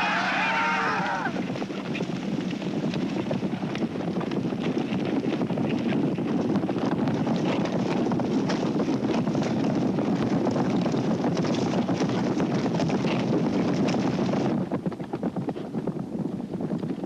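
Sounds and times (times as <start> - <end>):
horses galloping on grass: 0.0 - 17.0.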